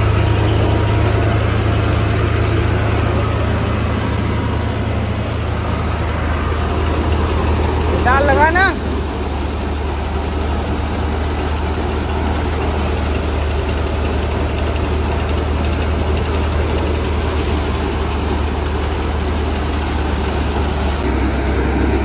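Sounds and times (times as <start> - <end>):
thresher running: 0.0 - 22.0
tractor diesel engine hum: 0.0 - 22.0.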